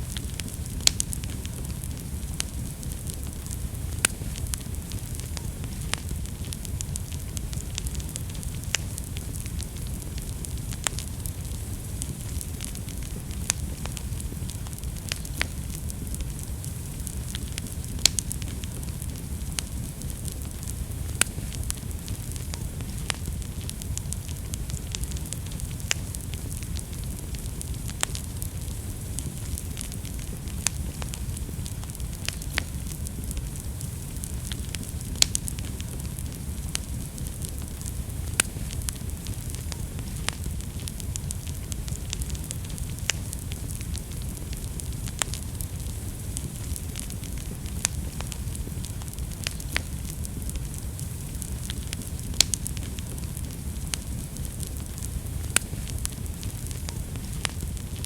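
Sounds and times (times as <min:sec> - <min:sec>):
fire crackling and popping: 0:00.0 - 0:58.0
fire flames rumbling: 0:00.0 - 0:58.0.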